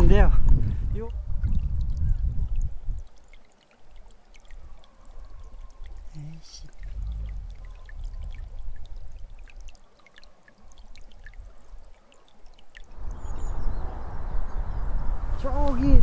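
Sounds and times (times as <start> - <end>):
small water splashes: 0.6 - 14.1
stream babbling over stones: 0.9 - 14.2.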